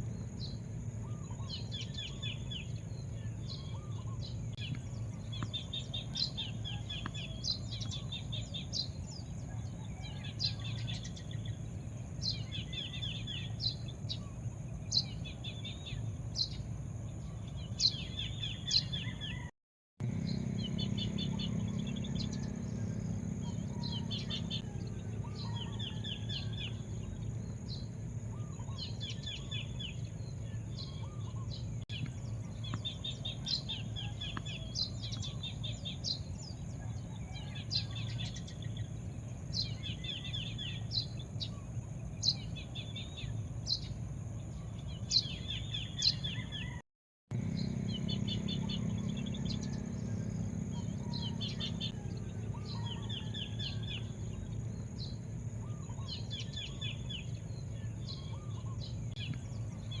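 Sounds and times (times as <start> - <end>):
low background rumble: 0.0 - 19.4, 20.0 - 46.7, 47.3 - 60.0
birds chirping: 0.0 - 60.0.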